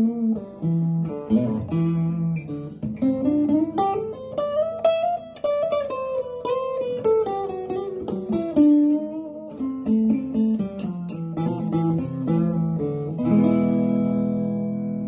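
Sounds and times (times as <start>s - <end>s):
acoustic guitar plucked notes: 0.0s - 15.0s.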